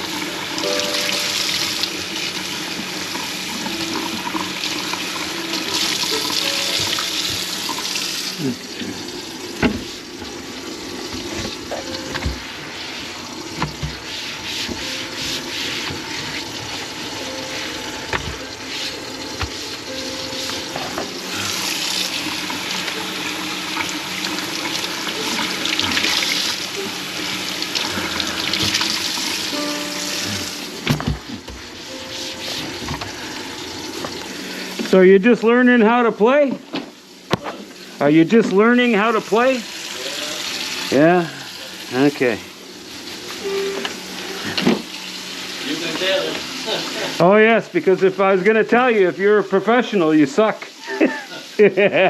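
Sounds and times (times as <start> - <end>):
tap water running into sink: 0.0 - 52.0.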